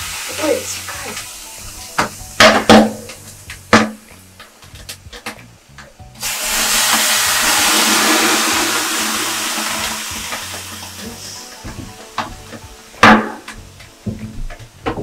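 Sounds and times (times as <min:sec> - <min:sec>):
water hissing on hot stones: 0:00.0 - 0:04.6, 0:06.0 - 0:14.0.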